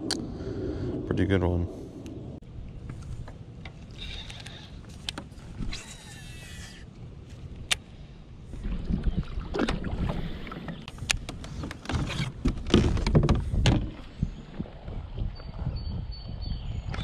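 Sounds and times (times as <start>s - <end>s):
wind rumble on microphone: 0.0s - 6.8s, 8.4s - 17.0s.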